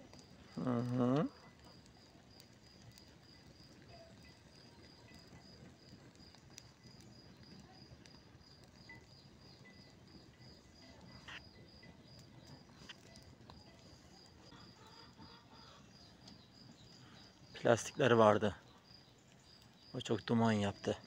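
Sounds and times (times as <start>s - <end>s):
fire crackling and popping: 0.0s - 21.0s
insect chirping: 0.1s - 21.0s.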